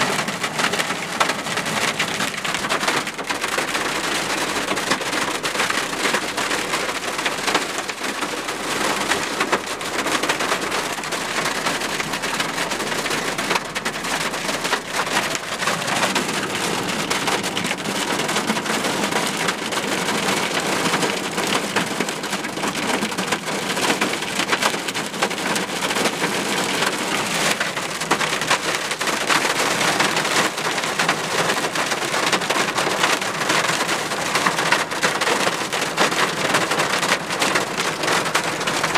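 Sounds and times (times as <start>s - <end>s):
hail and rain on vehicle roof: 0.0s - 38.9s.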